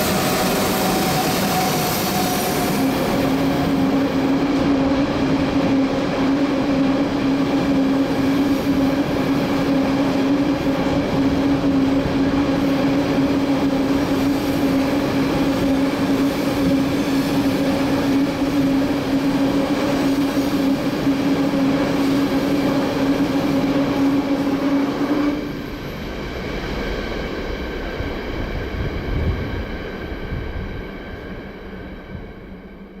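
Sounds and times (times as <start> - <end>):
train rail rumble: 0.0 - 33.0.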